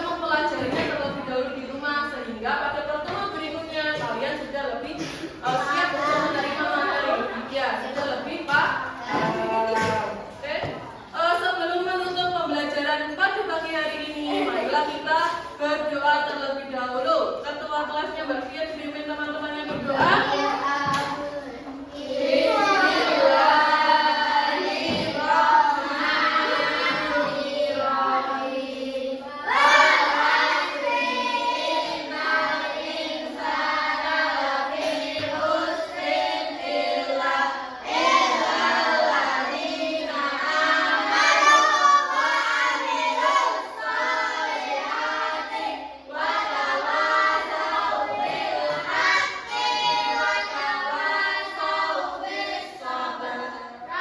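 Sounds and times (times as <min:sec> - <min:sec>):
children chanting a prayer: 0:00.0 - 0:11.1, 0:13.4 - 0:17.7, 0:18.8 - 0:54.0.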